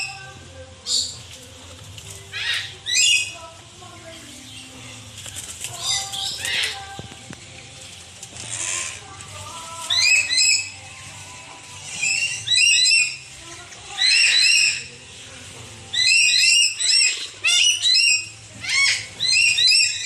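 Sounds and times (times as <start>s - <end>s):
birds screeching: 0.0s - 1.4s, 2.1s - 3.5s, 4.1s - 7.1s, 8.3s - 20.0s.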